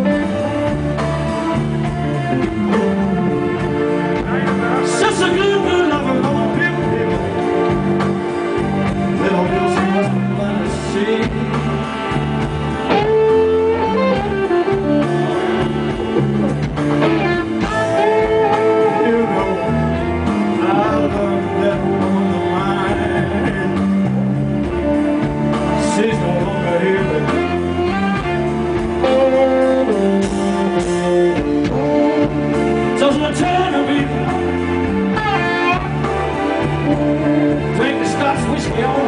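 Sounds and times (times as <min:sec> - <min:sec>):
blues band playing live: 0:00.0 - 0:39.0
guitar bending notes: 0:00.0 - 0:39.0.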